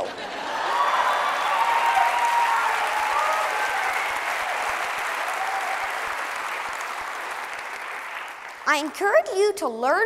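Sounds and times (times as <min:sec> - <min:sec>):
audience applauding: 0:00.4 - 0:09.0.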